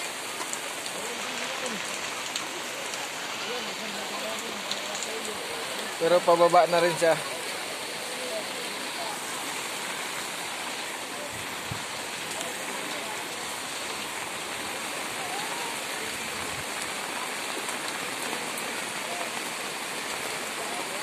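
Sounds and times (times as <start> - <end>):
floodwater river rushing: 0.0 - 21.0.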